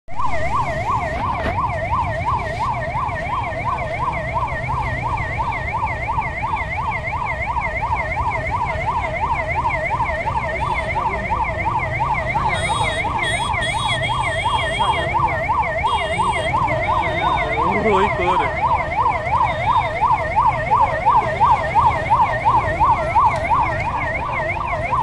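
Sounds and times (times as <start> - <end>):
ambulance siren yelping: 0.1 - 25.0.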